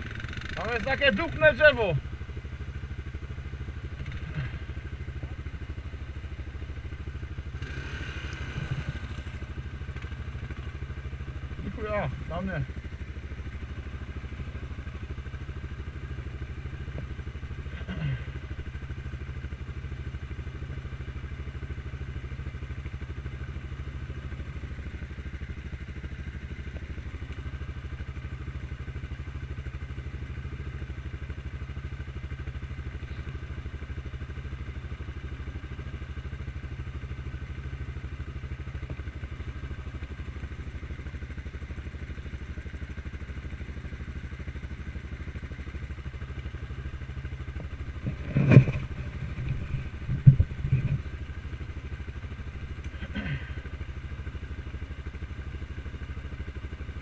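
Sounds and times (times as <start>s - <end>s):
atv engine idling: 0.0s - 57.0s.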